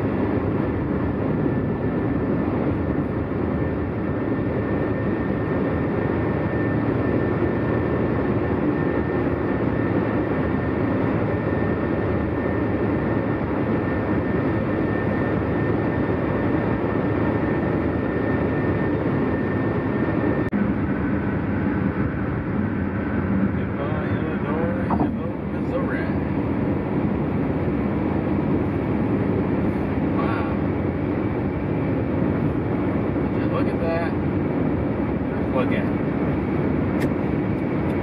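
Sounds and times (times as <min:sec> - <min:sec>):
car road noise: 0:00.0 - 0:38.0.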